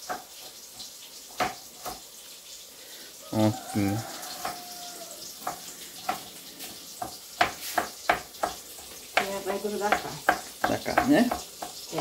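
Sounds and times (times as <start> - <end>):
spoon scraping and knocking pan: 0.0 - 2.2, 4.0 - 12.0
sauce sizzling in a pan: 0.0 - 12.0.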